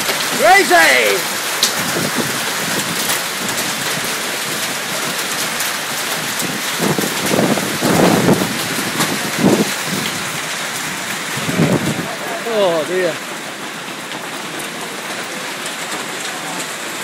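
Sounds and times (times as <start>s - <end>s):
hail and heavy rain pounding: 0.0s - 17.0s.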